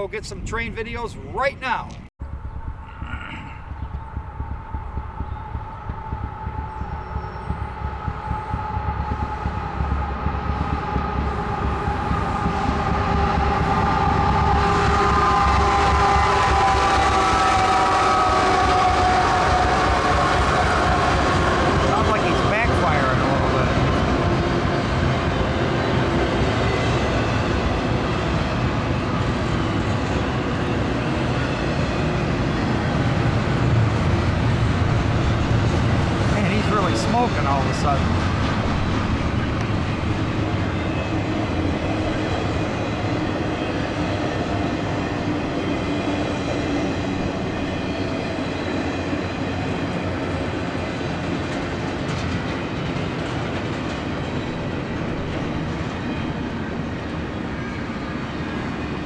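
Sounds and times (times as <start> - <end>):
diesel train rumbling: 1.8 - 59.0.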